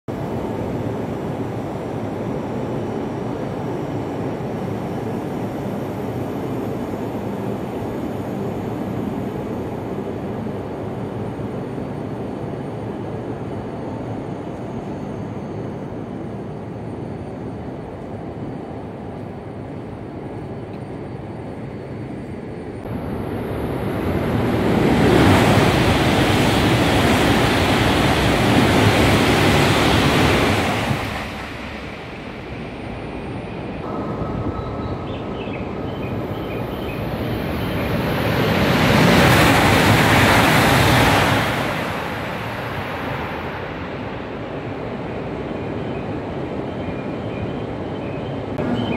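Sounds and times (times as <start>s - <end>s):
high-speed train rushing past: 0.1s - 48.9s
low rumble of track noise: 0.1s - 48.9s.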